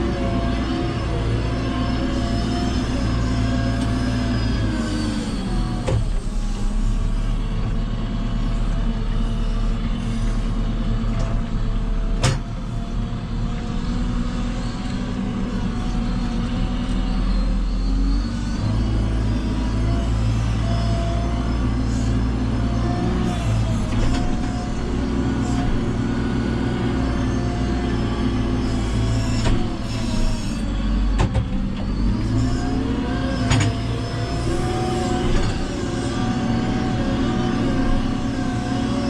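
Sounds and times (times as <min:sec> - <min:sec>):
backhoe diesel engine working: 0:00.0 - 0:39.0.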